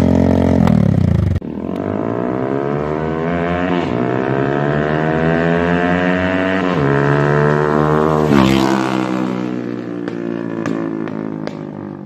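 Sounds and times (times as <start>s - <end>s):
motorcycle accelerating: 0.0s - 12.0s
motorcycle engine revving: 0.0s - 12.0s.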